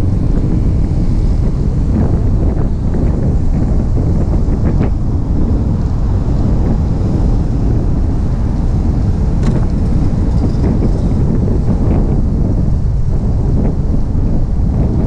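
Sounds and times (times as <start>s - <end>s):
motorcycle engine and road noise: 0.0s - 15.0s
wind rumble on microphone: 0.0s - 15.0s.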